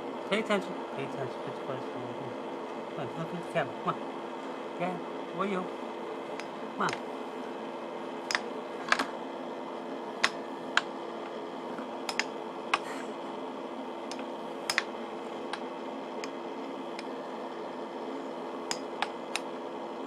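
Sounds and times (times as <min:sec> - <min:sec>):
air blower hum: 0:00.0 - 0:20.0.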